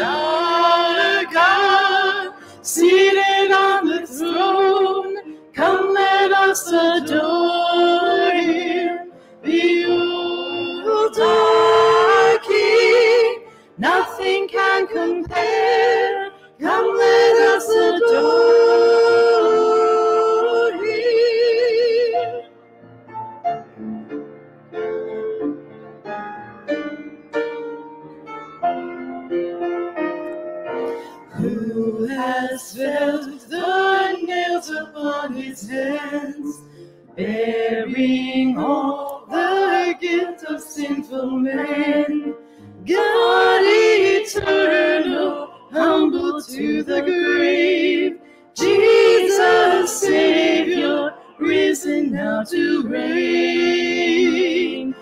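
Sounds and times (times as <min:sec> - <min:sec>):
group of voices singing: 0:00.0 - 0:22.4, 0:31.1 - 0:55.0
piano playing worship song: 0:00.0 - 0:55.0.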